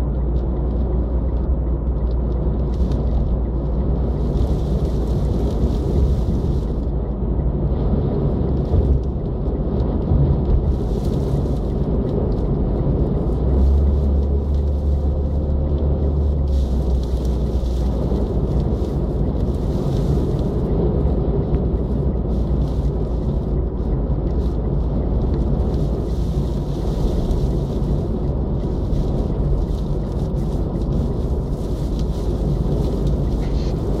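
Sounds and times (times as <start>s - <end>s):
road and wind noise in car: 0.0s - 34.0s.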